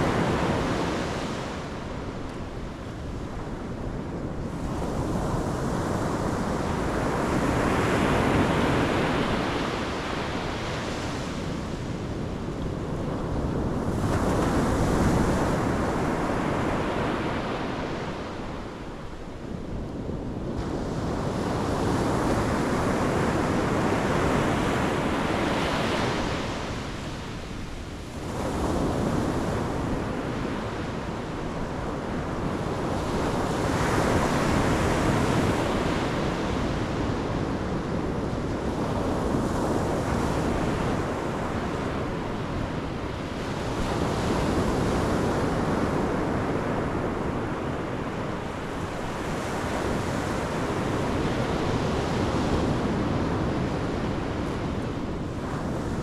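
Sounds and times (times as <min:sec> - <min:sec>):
ocean waves breaking on shore: 0:00.0 - 0:56.0
wind on microphone: 0:00.0 - 0:56.0.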